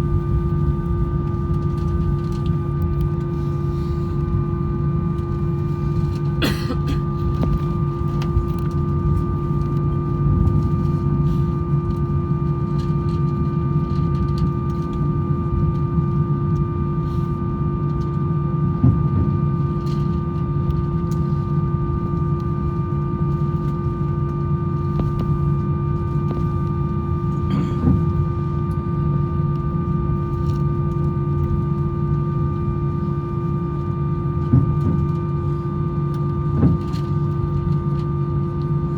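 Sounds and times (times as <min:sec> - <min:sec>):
aircraft cabin rumble and hum: 0:00.0 - 0:38.9.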